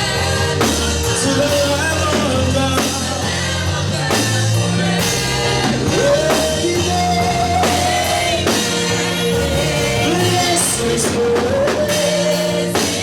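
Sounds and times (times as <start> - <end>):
gospel band playing: 0.0 - 13.0.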